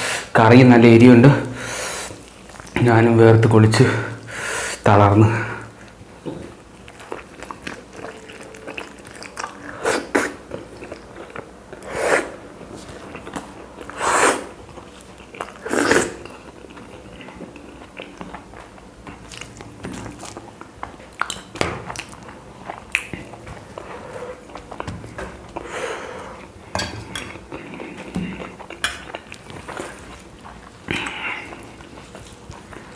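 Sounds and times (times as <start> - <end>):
man chewing food: 1.6 - 2.9, 5.6 - 32.9.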